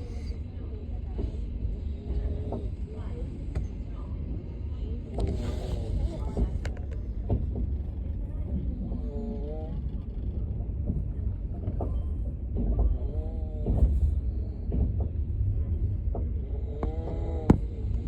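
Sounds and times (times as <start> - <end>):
moving train rumble: 0.0 - 18.0.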